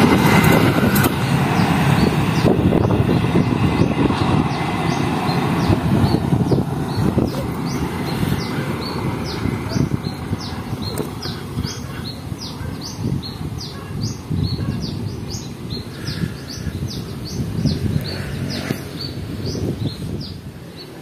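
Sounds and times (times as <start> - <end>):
steady low rumble: 0.0 - 20.6
bird chirping: 1.6 - 21.0.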